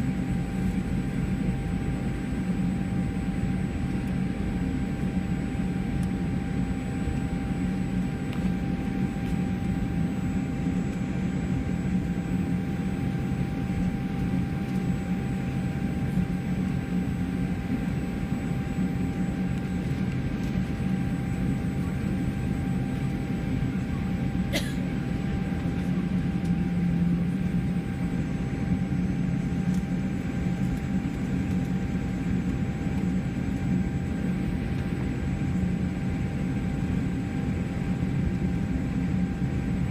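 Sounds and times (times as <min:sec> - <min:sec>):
jet engines low rumble: 0:00.0 - 0:39.9
steady cabin hum: 0:00.0 - 0:39.9.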